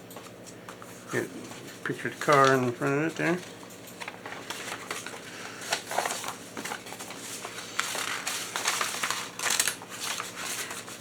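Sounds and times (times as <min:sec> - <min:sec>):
paper sheet rustling: 0:00.8 - 0:11.0.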